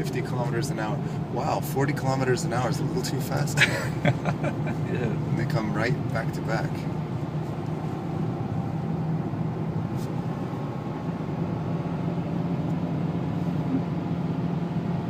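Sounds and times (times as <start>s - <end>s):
diesel engine drone in cabin: 0.0s - 15.0s
road noise hiss: 0.0s - 15.0s.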